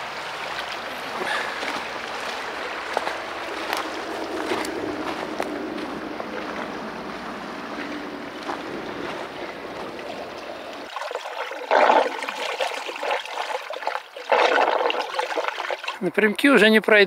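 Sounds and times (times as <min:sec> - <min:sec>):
water running and trickling: 0:00.0 - 0:16.1
water rushing bursts: 0:00.0 - 0:16.1.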